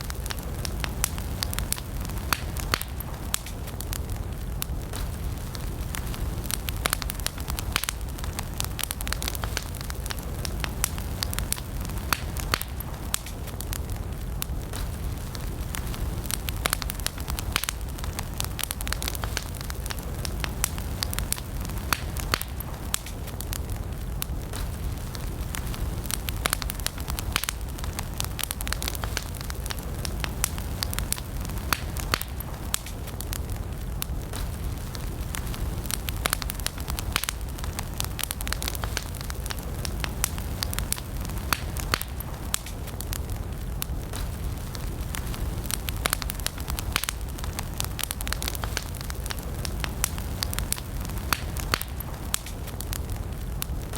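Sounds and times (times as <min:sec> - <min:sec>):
campfire crackling and popping: 0:00.0 - 0:53.9
low rumble of flames: 0:00.0 - 0:53.9.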